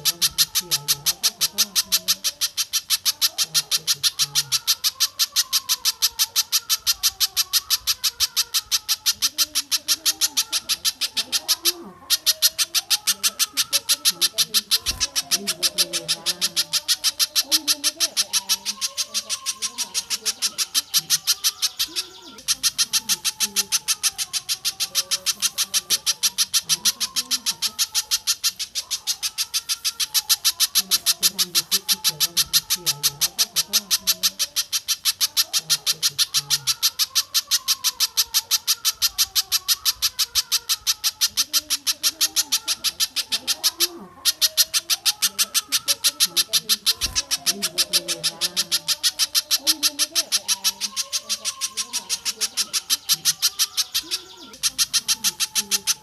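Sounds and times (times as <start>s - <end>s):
bird calling sharp high chips: 0.0s - 56.0s
soft wavering lower bird calls: 0.0s - 56.0s.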